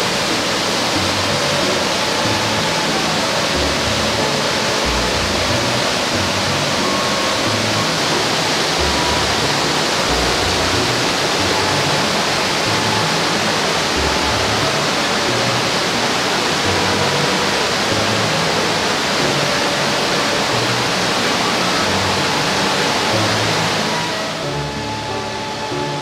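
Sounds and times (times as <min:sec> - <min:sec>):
mountain stream flowing: 0:00.0 - 0:26.0.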